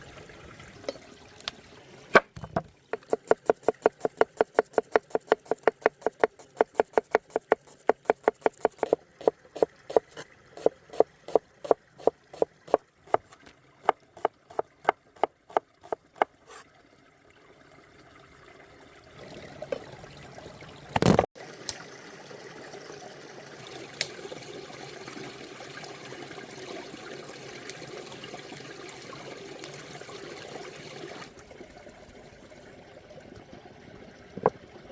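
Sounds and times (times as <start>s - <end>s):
stream running: 0.0s - 34.9s.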